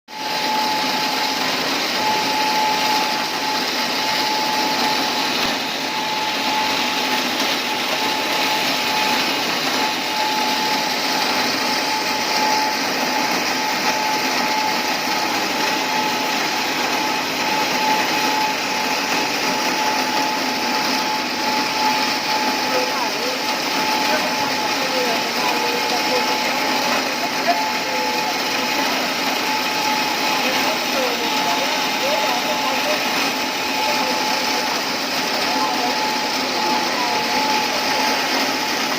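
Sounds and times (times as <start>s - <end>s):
machine whirring with thin whine: 0.1s - 38.9s.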